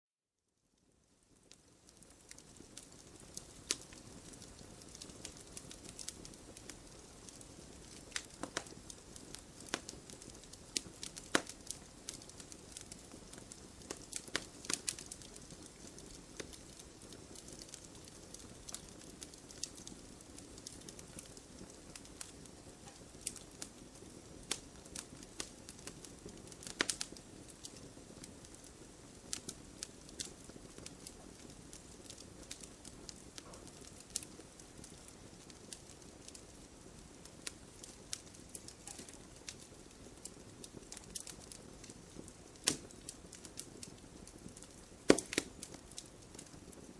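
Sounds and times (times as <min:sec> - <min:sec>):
campfire crackling and hissing: 0:00.8 - 0:46.9.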